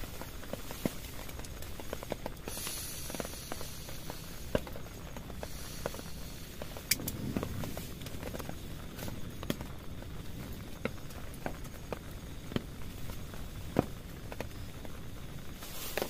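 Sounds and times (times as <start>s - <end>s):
rain hissing on a tent: 0.0s - 16.0s
raindrops tapping on fabric: 0.0s - 16.0s.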